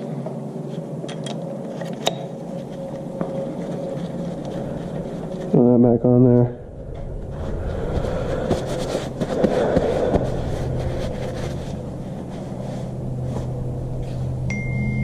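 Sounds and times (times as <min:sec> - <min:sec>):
mechanical hum and rumble: 0:00.0 - 0:15.0.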